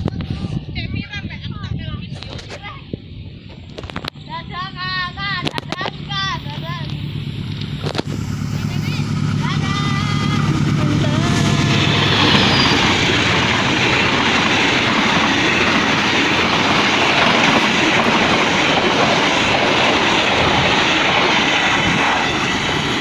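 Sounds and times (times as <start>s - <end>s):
train wheels rushing on rail: 3.4s - 23.0s
carriages clattering past: 4.1s - 23.0s.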